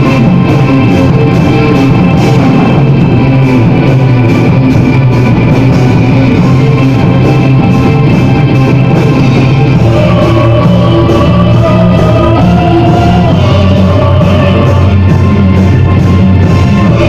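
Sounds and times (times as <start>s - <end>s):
distorted electric guitars: 0.0s - 17.0s
drums: 0.0s - 17.0s
wavering held melody line: 0.0s - 17.0s.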